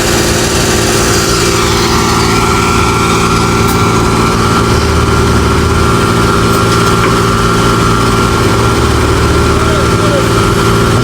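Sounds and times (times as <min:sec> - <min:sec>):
machine engine idling: 0:00.0 - 0:11.0.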